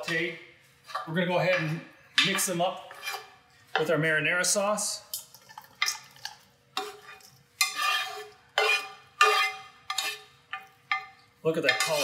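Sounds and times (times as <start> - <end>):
metal utensil scraping skillet: 0.0 - 3.9, 5.8 - 12.0.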